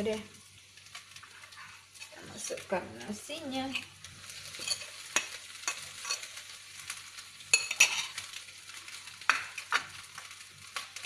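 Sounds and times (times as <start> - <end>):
frying pan sizzling: 0.0 - 11.0.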